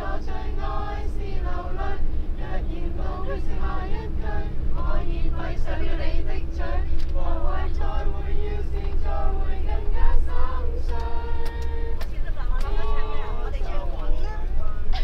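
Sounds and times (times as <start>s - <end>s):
voices singing together: 0.0s - 13.6s
bus rumble: 0.0s - 15.0s.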